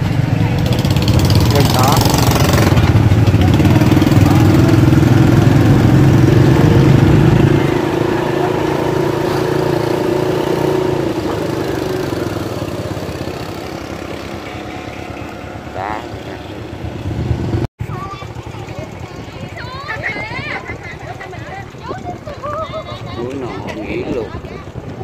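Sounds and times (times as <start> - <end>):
small motorbike engine running: 0.0 - 25.0.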